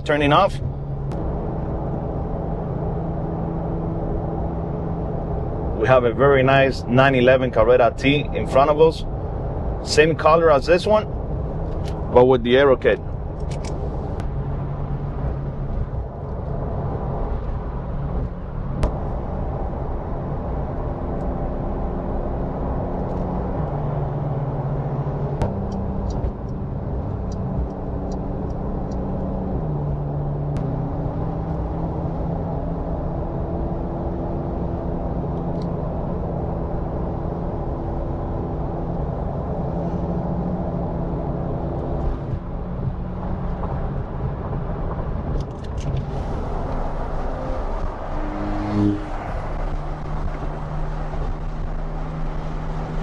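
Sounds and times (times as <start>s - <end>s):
car engine drone from cabin: 0.0s - 53.0s
tyre and road noise: 0.0s - 53.0s.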